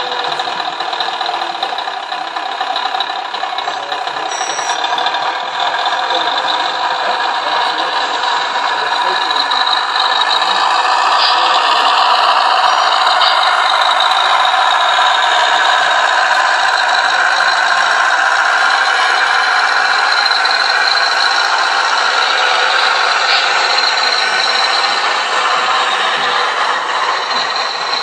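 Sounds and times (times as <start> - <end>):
toy truck mechanical running noise: 0.0 - 28.0.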